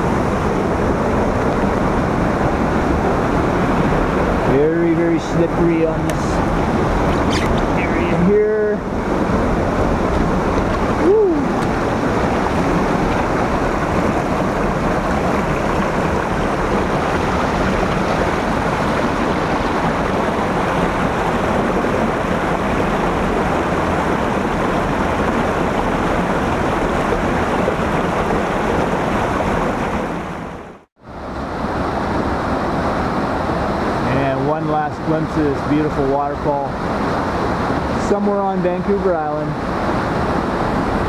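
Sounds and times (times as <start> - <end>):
creek water rushing: 0.0 - 41.0.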